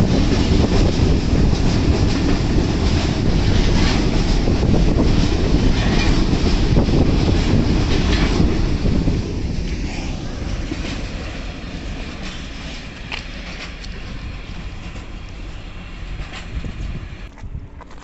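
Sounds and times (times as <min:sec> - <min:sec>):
wheels clicking over rail joints: 0:00.0 - 0:09.8, 0:10.4 - 0:18.0
freight train rumbling: 0:00.0 - 0:18.0.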